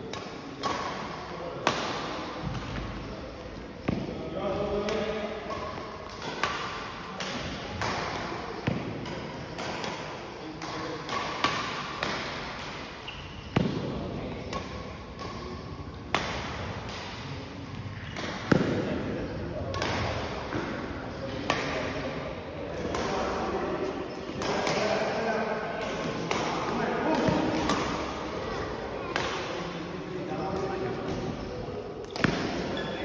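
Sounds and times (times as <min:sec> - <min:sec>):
rackets striking shuttlecocks: 0:00.0 - 0:03.0, 0:03.8 - 0:22.0, 0:22.7 - 0:29.8, 0:32.0 - 0:32.9.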